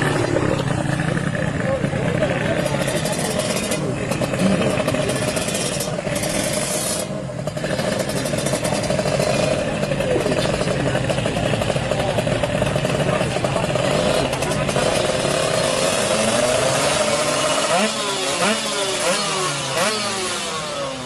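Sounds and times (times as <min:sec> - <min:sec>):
two-stroke engine running: 0:00.0 - 0:21.0.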